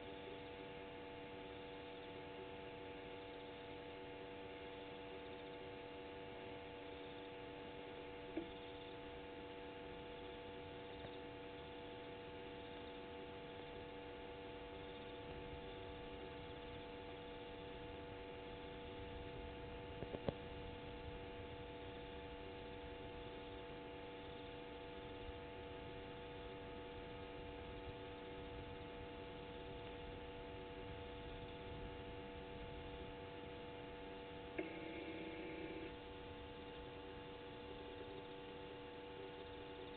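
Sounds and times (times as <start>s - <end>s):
faint electrical hum: 0.0s - 39.9s.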